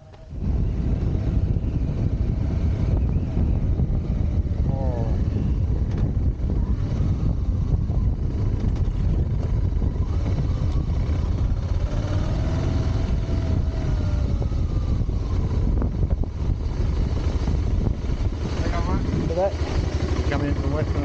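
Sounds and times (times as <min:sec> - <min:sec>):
motorcycle engine: 0:00.0 - 0:21.0
wind rumble on microphone: 0:00.0 - 0:21.0.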